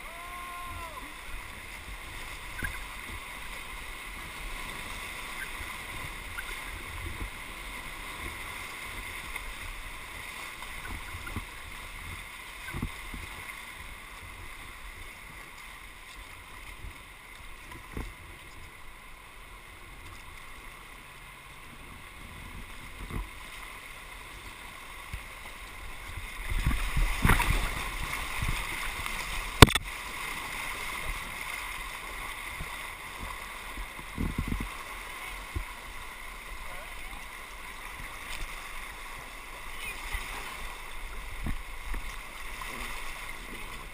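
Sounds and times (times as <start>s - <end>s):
paddle splashes: 0.0s - 43.9s
whitewater rushing: 0.0s - 43.9s.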